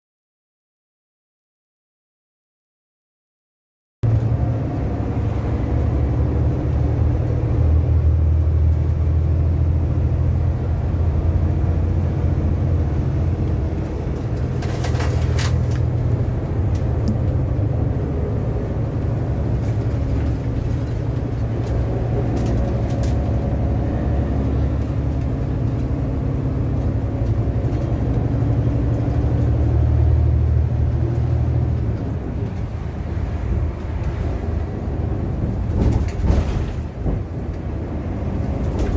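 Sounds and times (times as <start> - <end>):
car engine and tyre rumble: 4.0 - 38.9.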